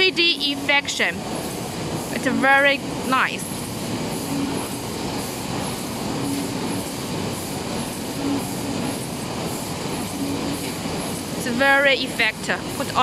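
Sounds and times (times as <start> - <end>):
hall machinery noise: 0.0 - 13.0.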